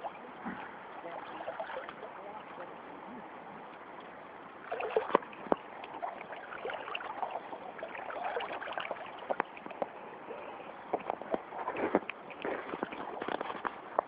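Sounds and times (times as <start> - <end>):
water splashing around wader: 0.0 - 14.0.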